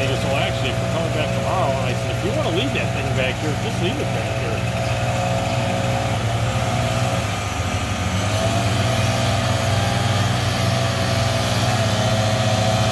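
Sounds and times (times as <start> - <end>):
leaf blower running: 0.0 - 12.9
power equipment engines droning: 0.0 - 12.9.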